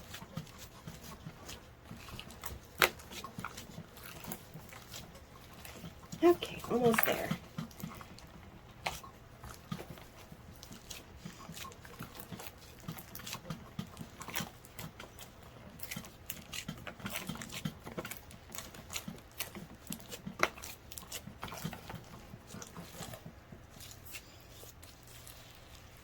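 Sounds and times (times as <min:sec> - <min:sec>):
slime kneaded with wet pops: 0:00.0 - 0:26.0.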